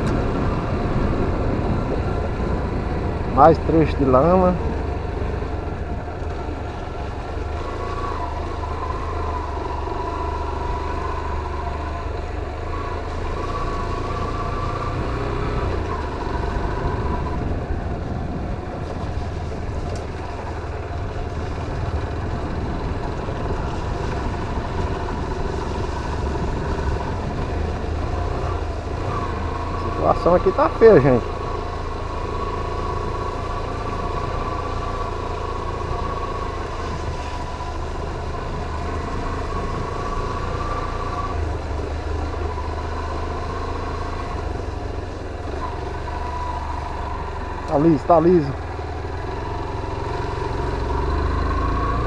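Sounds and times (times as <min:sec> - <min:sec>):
low rumble: 0:00.0 - 0:52.0
motorcycle engine running: 0:00.0 - 0:52.0.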